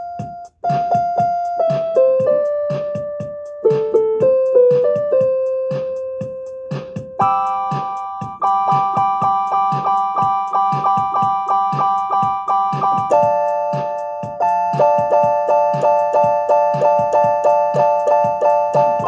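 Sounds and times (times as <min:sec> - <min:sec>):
drum machine beat: 0:00.0 - 0:19.0
electronic keyboard chords: 0:00.0 - 0:19.0.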